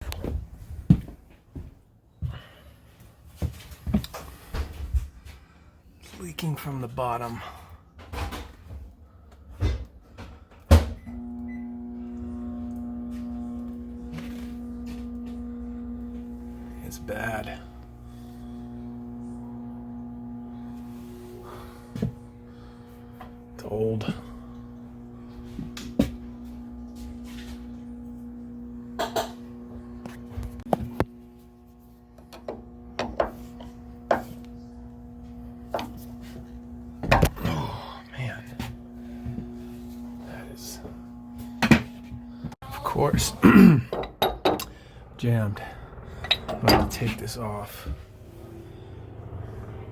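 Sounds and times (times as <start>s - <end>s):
humming drone: 9.6s - 49.9s.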